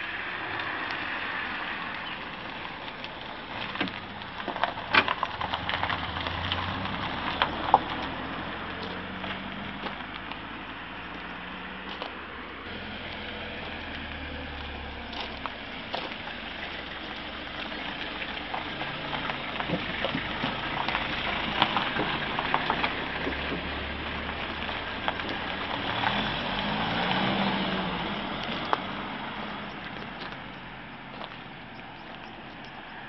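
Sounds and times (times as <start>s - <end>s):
vehicles driving past: 0.0s - 33.0s.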